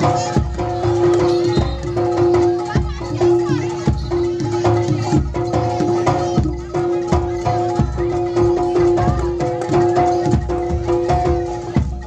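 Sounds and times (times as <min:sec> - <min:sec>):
hand drums beating: 0:00.0 - 0:12.0
held melody line: 0:00.0 - 0:12.0.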